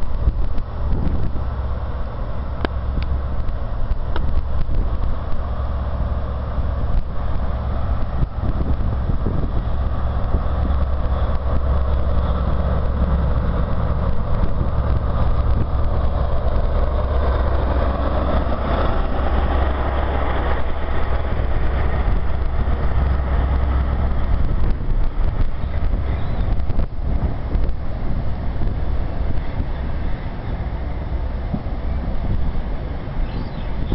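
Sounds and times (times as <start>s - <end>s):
diesel engine drone: 0.0s - 33.9s
wheels rumbling on rail: 0.0s - 33.9s.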